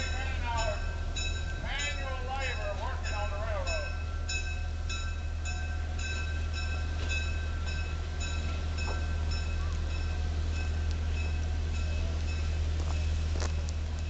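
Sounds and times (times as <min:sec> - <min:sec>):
diesel locomotive idling: 0:00.0 - 0:14.0
railroad bell ringing: 0:00.0 - 0:14.0.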